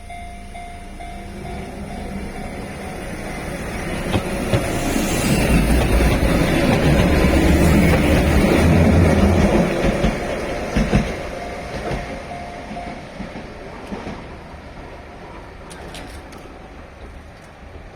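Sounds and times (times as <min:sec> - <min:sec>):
electric train running past: 0:00.0 - 0:17.9.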